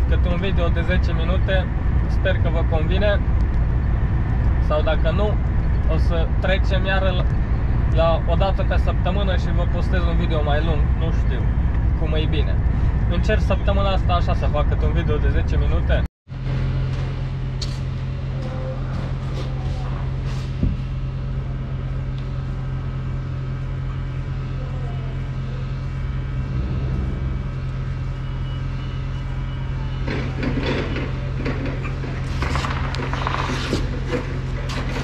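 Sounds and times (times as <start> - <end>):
truck diesel engine droning: 0.0 - 35.0.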